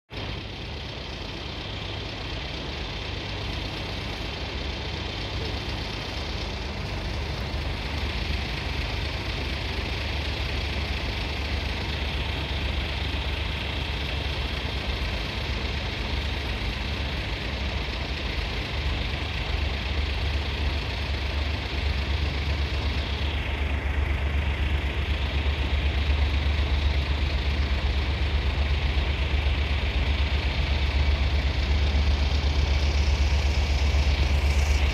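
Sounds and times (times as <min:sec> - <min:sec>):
lorry diesel engine idling: 0:00.1 - 0:34.9
train approaching: 0:00.1 - 0:34.9.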